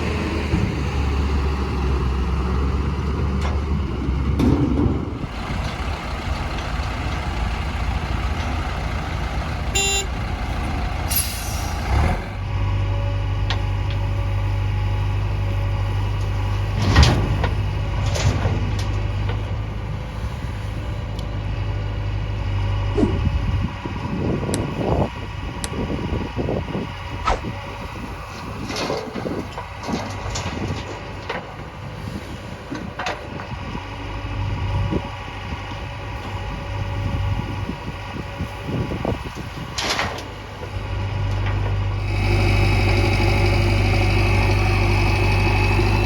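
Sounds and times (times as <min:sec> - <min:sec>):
heavy diesel engines running: 0:00.0 - 0:46.0.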